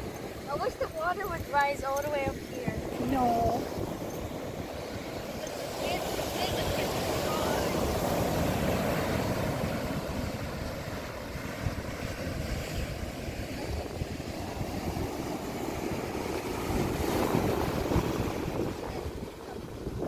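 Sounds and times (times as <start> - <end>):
wind rumbling on microphone: 0.0 - 20.0
surf breaking on beach: 0.1 - 20.0.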